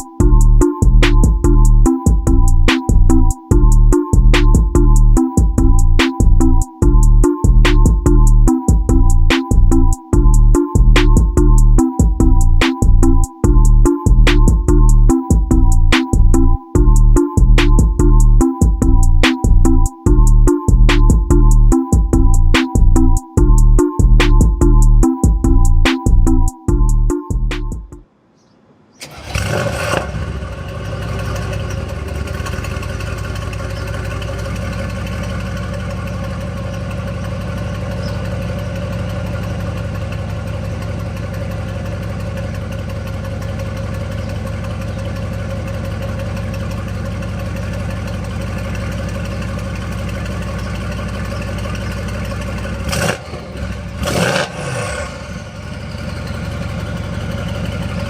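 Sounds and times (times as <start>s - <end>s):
car engine starting and idling: 0.0s - 28.0s, 29.0s - 58.0s.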